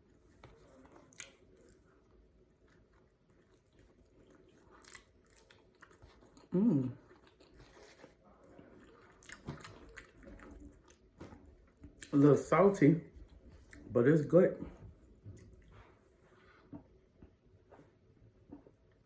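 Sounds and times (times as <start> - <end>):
chewing and mouth sounds: 0.0 - 13.9, 14.7 - 16.1.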